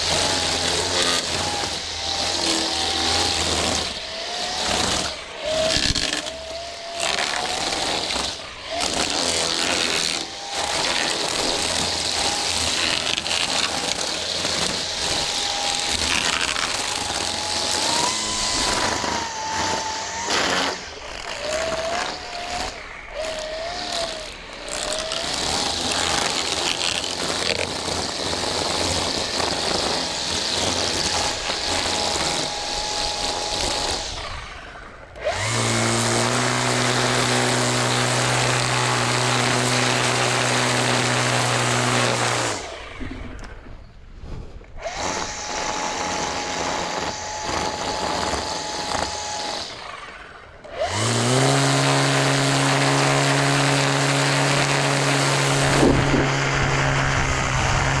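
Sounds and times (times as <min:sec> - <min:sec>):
string trimmer cutting grass: 0:00.0 - 0:58.0.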